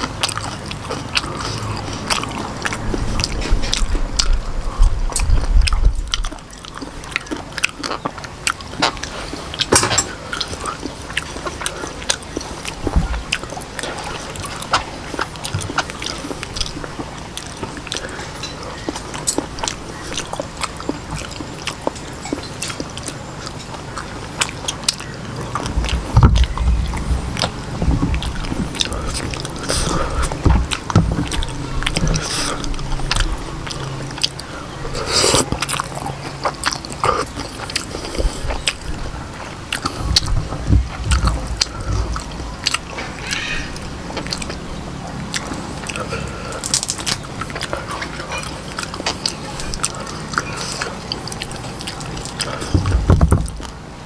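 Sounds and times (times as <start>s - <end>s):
chewing with wet mouth smacks: 0.0s - 54.0s.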